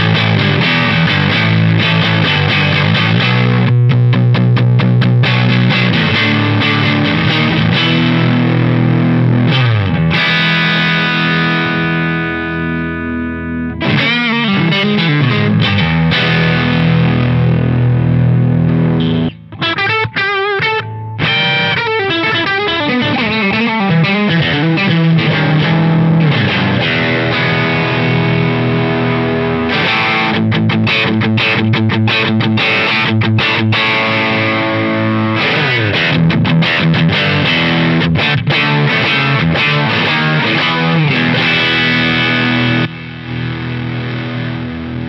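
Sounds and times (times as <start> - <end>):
overdriven electric guitar: 0.0 - 45.0.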